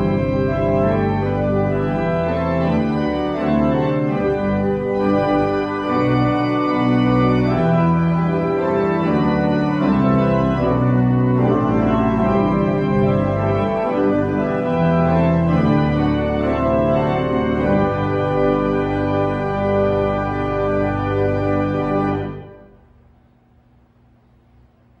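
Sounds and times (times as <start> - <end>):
pipe organ playing chords: 0.0 - 23.0.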